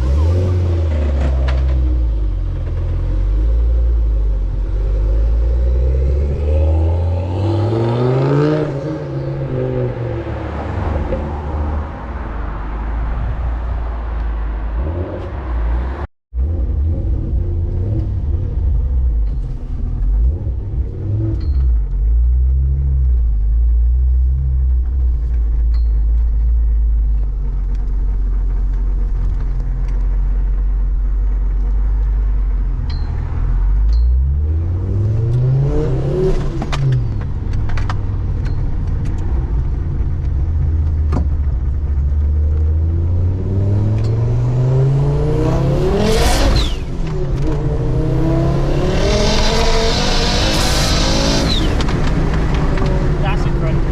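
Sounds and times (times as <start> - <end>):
car engine rumbling and revving: 0.0 - 53.9.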